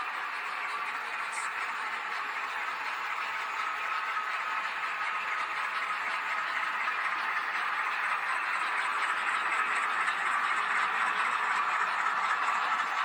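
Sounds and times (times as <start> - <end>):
model train motor whirring: 0.0 - 13.0
wheels rolling on rails: 0.0 - 13.0.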